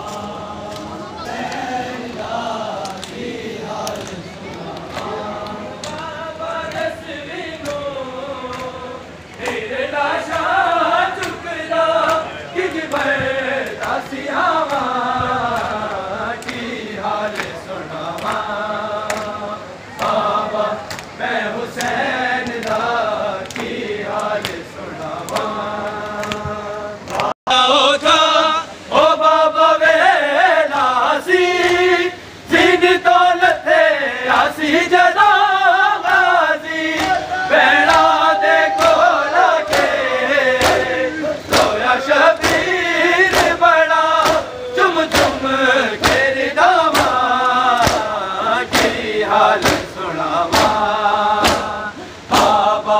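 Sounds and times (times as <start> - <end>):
rhythmic chest-beating slaps: 0.0 - 27.4, 31.4 - 32.0, 33.7 - 52.9
men chanting in unison: 0.0 - 52.9.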